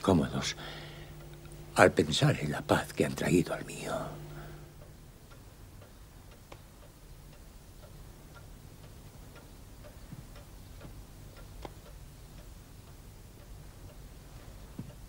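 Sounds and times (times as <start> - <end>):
clock ticking: 0.0 - 15.0
faint room hum: 0.0 - 15.0.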